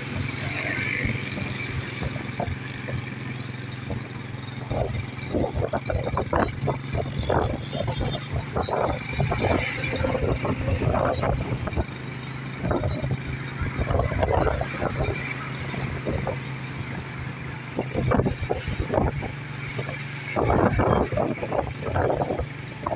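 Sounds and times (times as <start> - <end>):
traffic passing: 0.0 - 22.9
vehicle engine hum: 0.0 - 22.9
wind gusts on microphone: 3.8 - 22.9.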